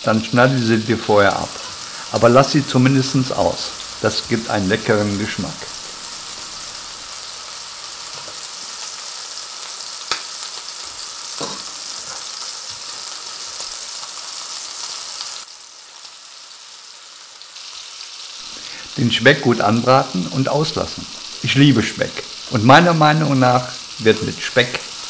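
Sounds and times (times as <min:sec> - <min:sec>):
butter sizzling in a frying pan: 0:00.0 - 0:25.0.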